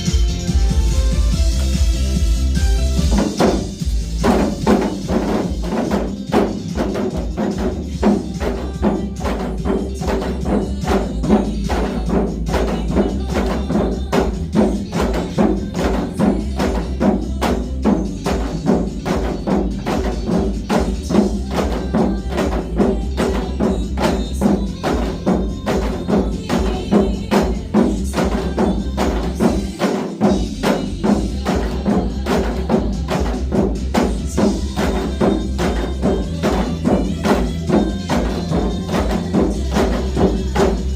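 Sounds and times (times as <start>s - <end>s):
disco backing track: 0.0s - 40.9s
hourglass drums struck in rhythm: 0.0s - 40.9s.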